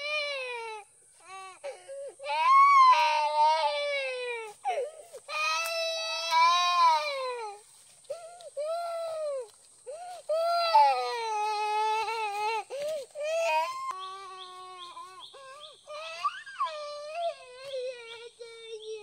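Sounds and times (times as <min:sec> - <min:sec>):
young child crying: 0:00.0 - 0:19.0.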